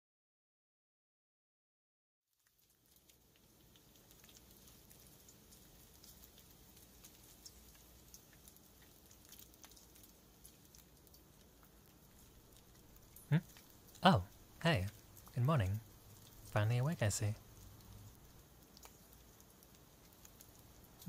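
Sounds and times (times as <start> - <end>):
faint crackling hiss: 2.3 - 21.0.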